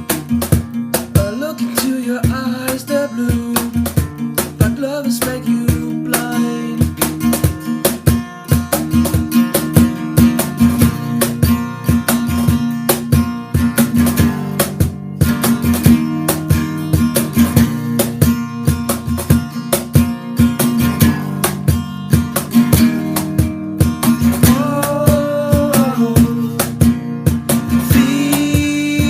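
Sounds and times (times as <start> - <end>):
cajon hits: 0.0 - 29.0
strummed acoustic guitar: 0.0 - 29.0.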